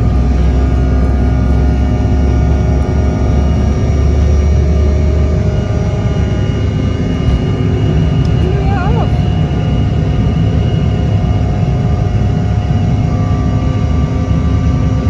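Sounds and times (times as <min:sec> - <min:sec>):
steady engine whining tones: 0:00.0 - 0:14.1
jet engines rumbling in cabin: 0:00.0 - 0:15.0.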